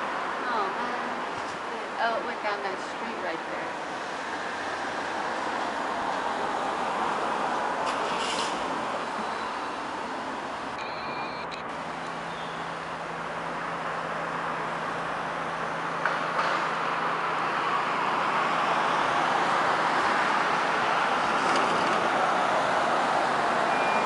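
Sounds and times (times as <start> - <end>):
traffic road noise hiss: 0.0 - 24.0.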